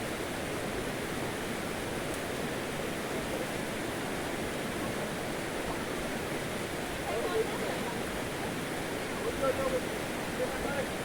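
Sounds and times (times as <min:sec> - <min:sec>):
flowing water rushing: 0:00.4 - 0:11.0.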